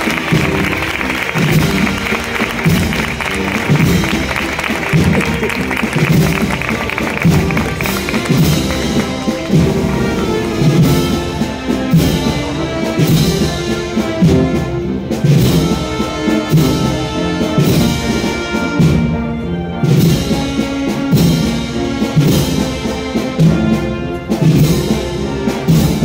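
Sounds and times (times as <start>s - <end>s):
wind band playing a march: 0.0s - 26.0s.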